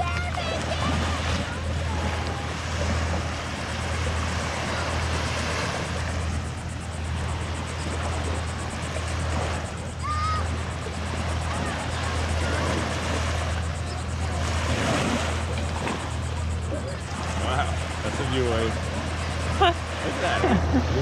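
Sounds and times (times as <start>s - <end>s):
small waves washing onto sand: 0.0s - 21.0s
steady low rumble: 0.0s - 21.0s.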